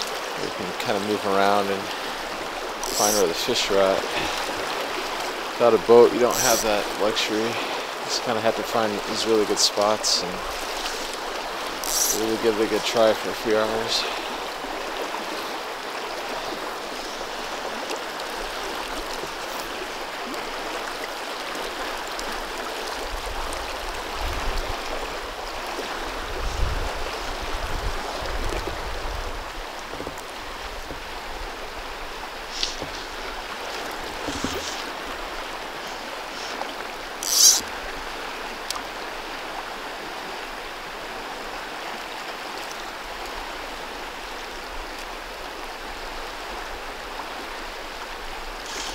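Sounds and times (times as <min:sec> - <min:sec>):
river rushing over riffle: 0:00.0 - 0:48.9.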